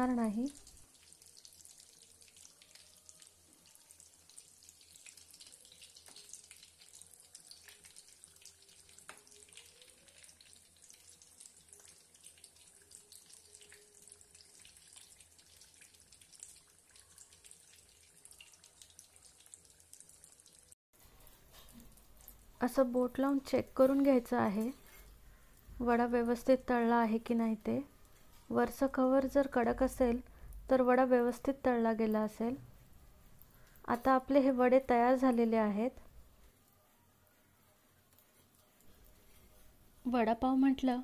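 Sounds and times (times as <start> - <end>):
food deep-frying in oil: 0.0 - 36.8, 37.5 - 41.0.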